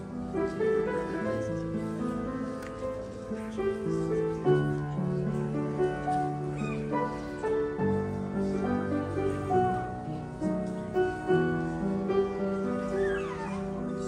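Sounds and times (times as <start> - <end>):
instrumental piano music: 0.0 - 14.0.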